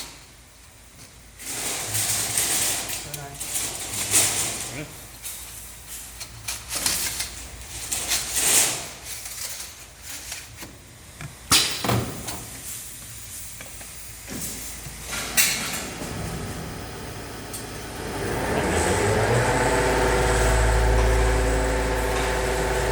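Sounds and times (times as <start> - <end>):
workshop machinery hissing and clanking: 0.0 - 22.9.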